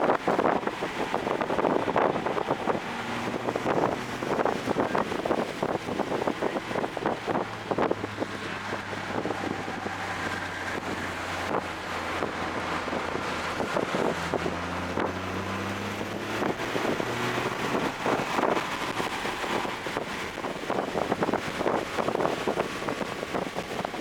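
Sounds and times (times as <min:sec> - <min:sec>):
car engine revving: 0:00.0 - 0:24.0
road noise: 0:00.0 - 0:24.0
wind noise: 0:00.0 - 0:24.0.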